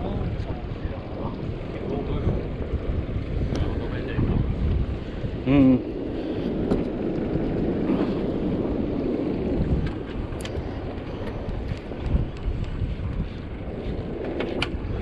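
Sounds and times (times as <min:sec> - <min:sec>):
low rumble of boat and sea: 0:00.0 - 0:15.0
wind buffeting microphone: 0:00.0 - 0:15.0.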